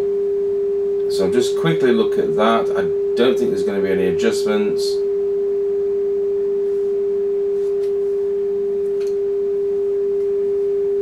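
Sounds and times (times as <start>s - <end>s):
steady sine-wave test tone: 0.0s - 11.0s.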